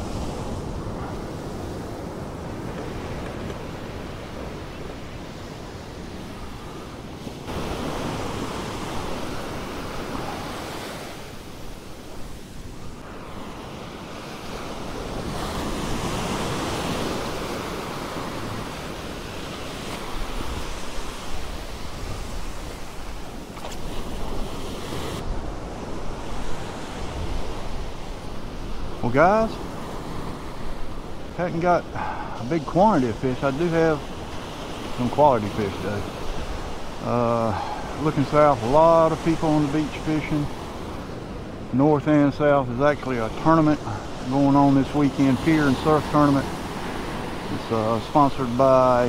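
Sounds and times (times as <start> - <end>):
ocean surf breaking: 0.0 - 49.0.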